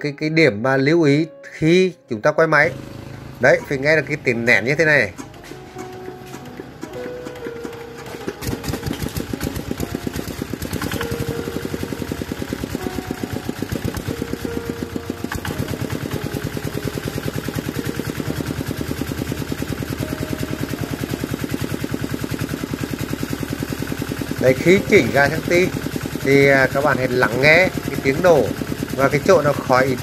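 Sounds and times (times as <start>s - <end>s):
diesel engine running: 2.7s - 30.0s.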